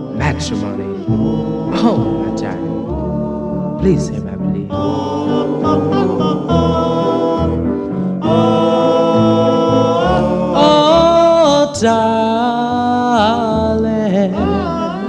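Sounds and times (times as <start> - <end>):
doo-wop vocal group harmonizing: 0.0 - 15.0.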